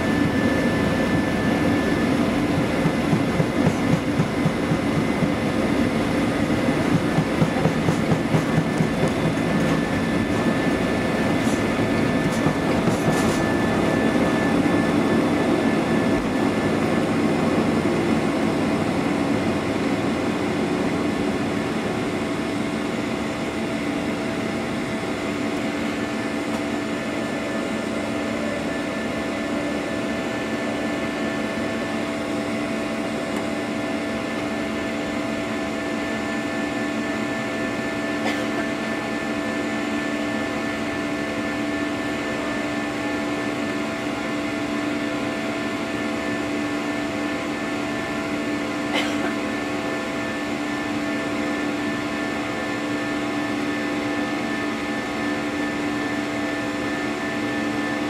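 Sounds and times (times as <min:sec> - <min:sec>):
jet engines rushing in cabin: 0:00.0 - 0:58.0
steady hums and tones: 0:00.0 - 0:58.0.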